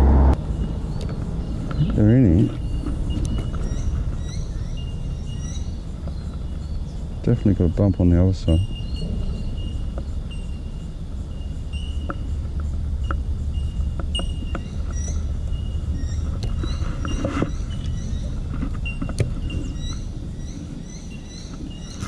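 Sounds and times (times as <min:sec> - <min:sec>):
traffic rumble over bridge: 0:00.0 - 0:22.0.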